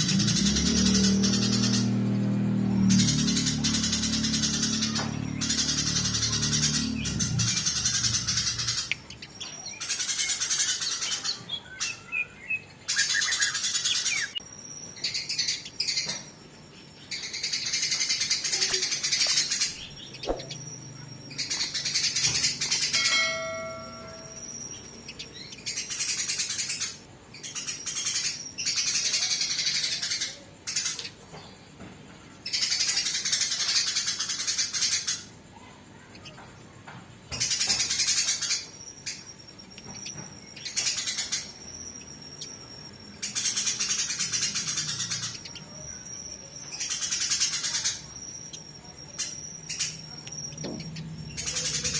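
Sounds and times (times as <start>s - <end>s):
sparrows chattering harshly: 0.0s - 51.9s.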